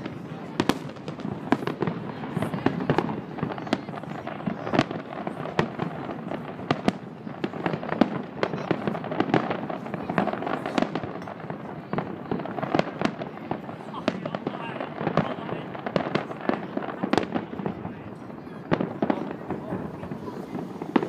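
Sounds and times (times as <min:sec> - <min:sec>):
distant fireworks bangs: 0:00.0 - 0:21.0.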